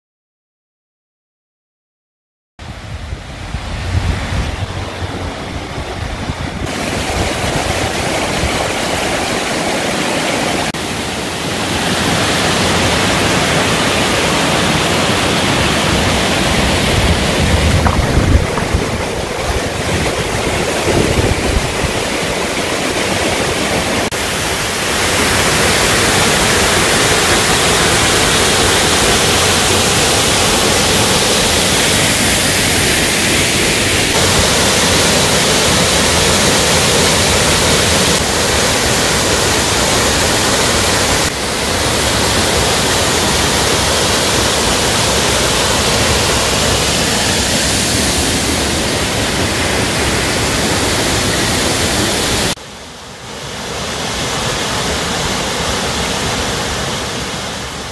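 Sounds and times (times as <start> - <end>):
waterfall rushing into pool: 2.6 - 57.9.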